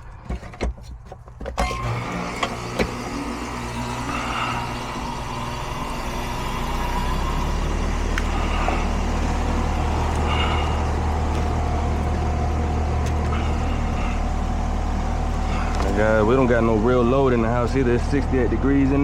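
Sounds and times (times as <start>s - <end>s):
air conditioner unit humming: 1.6s - 19.0s.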